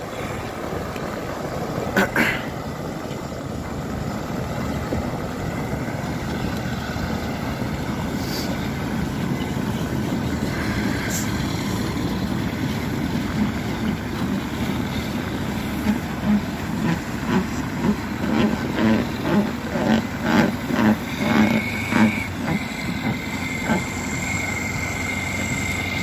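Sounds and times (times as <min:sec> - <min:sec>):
heavy diesel engines rumbling: 0:00.0 - 0:26.0.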